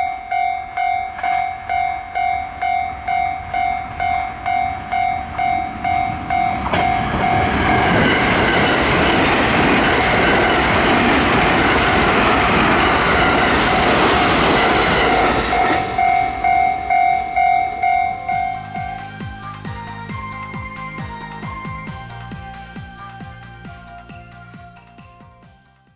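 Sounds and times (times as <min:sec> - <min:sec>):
train wheels on rails: 0:00.0 - 0:25.4
level-crossing warning bell: 0:00.0 - 0:25.5.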